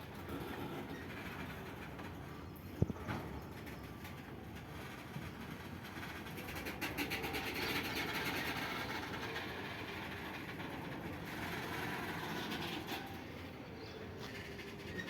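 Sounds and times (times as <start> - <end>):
rapid clicks of wheels: 0.0 - 15.0
train wheels rumbling on rails: 0.0 - 15.0.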